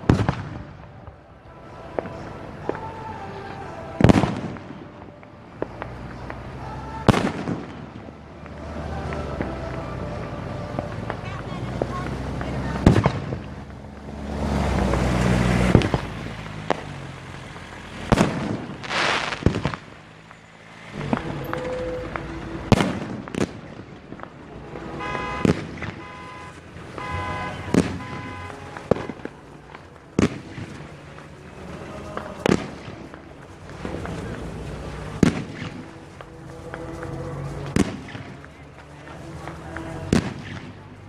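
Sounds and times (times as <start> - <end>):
fireworks booming: 0.0 - 41.0.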